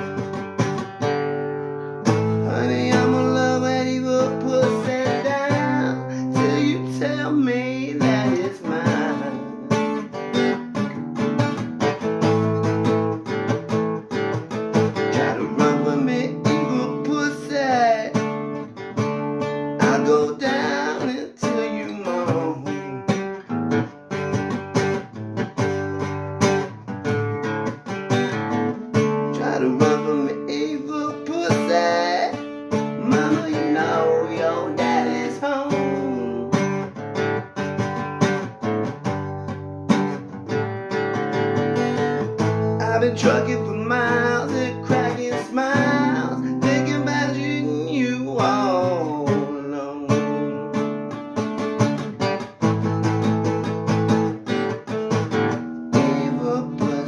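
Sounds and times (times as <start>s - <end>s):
acoustic guitar blues: 0.0s - 57.0s.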